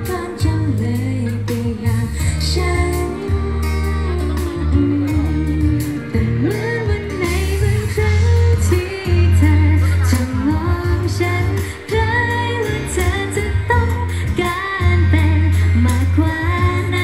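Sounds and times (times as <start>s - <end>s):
pop song with female vocals: 0.0s - 17.0s.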